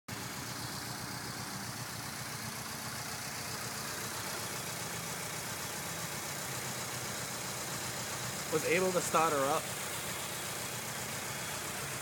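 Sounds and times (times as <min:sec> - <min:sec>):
engine idling roughly: 0:00.1 - 0:12.0.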